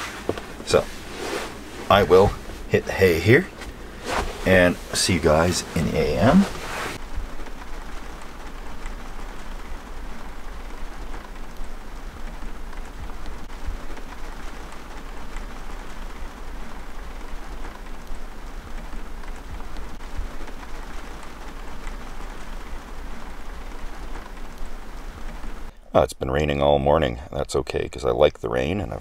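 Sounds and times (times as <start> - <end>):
rain on a bus roof: 0.0 - 25.7.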